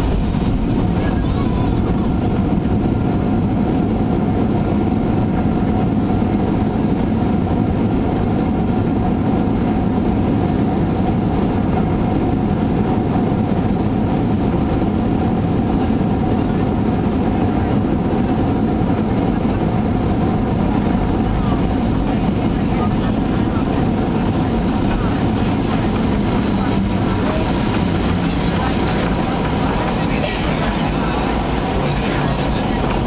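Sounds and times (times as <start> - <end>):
low rumble of engines and wheels: 0.0 - 33.0.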